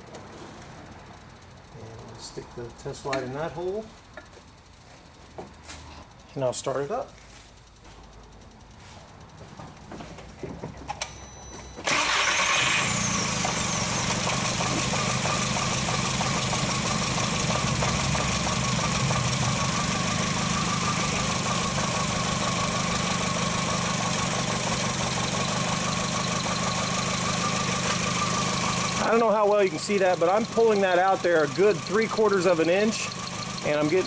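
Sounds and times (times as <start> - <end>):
car engine starting and idling: 6.1 - 34.0.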